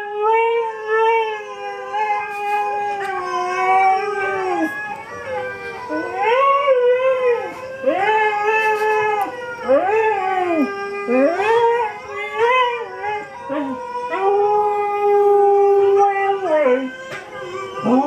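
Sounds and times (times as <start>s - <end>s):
husky howling: 0.0s - 18.0s.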